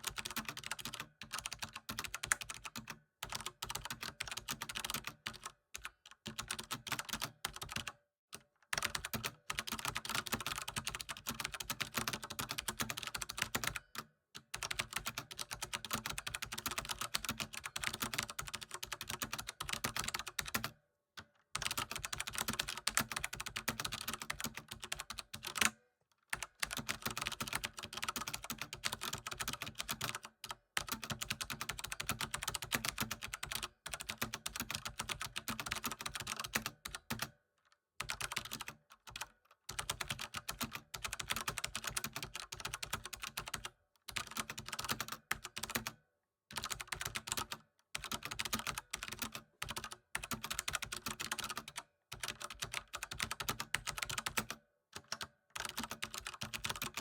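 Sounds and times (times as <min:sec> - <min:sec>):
computer keyboard typing: 0:00.0 - 0:07.9, 0:08.7 - 0:20.8, 0:21.6 - 0:37.4, 0:38.0 - 0:57.0.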